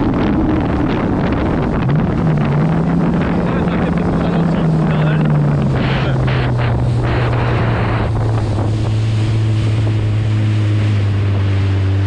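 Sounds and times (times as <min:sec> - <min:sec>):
jet ski engine running: 0:00.0 - 0:12.0
wind buffeting microphone: 0:00.0 - 0:12.0.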